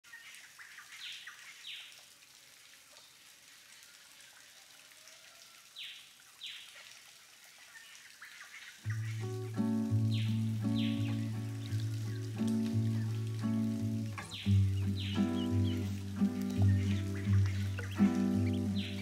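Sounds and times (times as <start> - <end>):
stream trickling over stones: 0.0 - 19.0.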